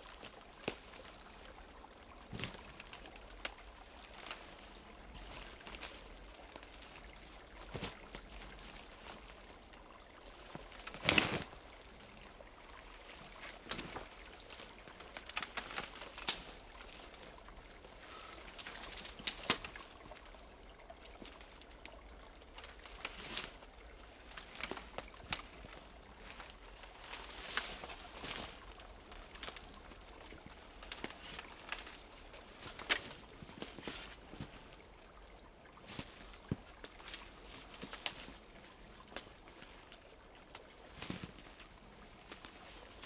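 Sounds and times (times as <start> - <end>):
ice clicks and crackles: 0.0 - 43.0
stream trickling: 0.0 - 43.0.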